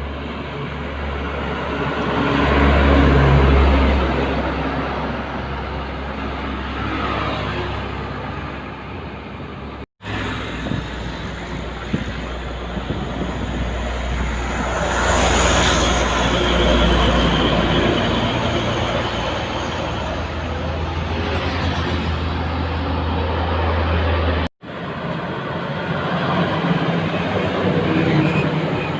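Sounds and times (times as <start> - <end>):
heavy trucks on highway: 0.0 - 28.9
truck passing close: 0.0 - 28.9.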